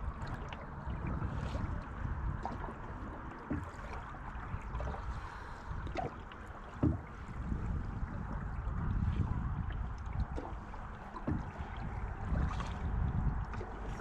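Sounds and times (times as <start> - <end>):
low rumble: 0.0 - 14.0
paddle drawing through water: 0.0 - 14.0
splashes and knocks: 0.0 - 14.0.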